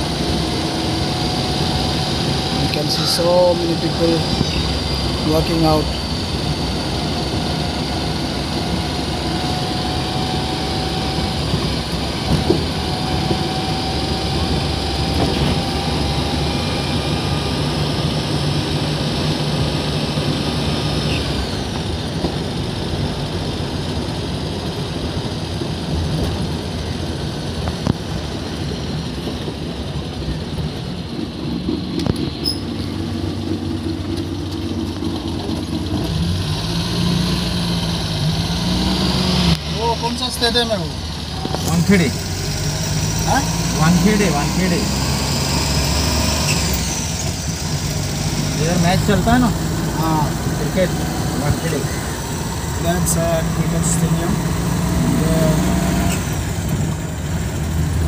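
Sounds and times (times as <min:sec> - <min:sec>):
car engine hum: 0:00.0 - 0:58.0
road noise inside car: 0:00.0 - 0:58.0.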